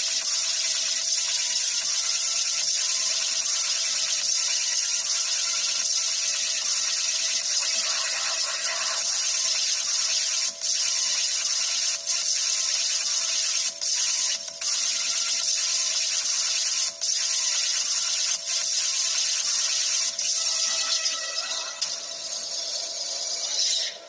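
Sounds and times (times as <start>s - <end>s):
tesla coil hissing buzz: 0.0s - 24.0s.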